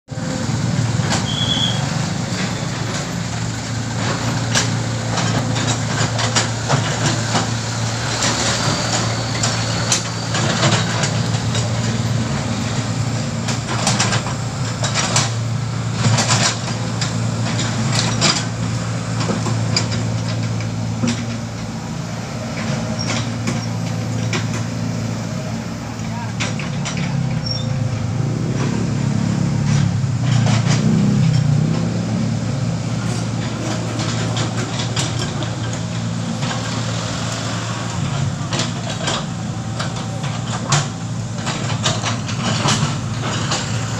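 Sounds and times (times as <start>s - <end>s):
excavator diesel engine running: 0.1s - 43.9s
excavator bucket clanking and rattling: 0.2s - 43.9s.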